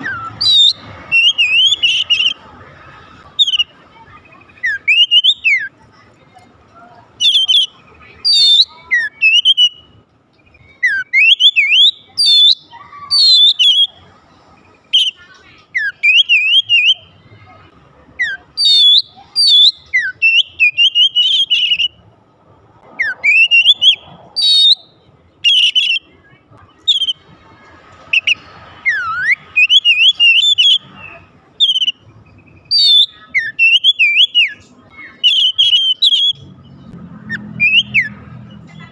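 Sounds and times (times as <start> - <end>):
bird singing whistled phrases: 0.0 - 2.4, 3.4 - 5.7, 7.2 - 14.0, 14.9 - 17.1, 18.2 - 22.0, 23.0 - 27.2, 28.1 - 38.2.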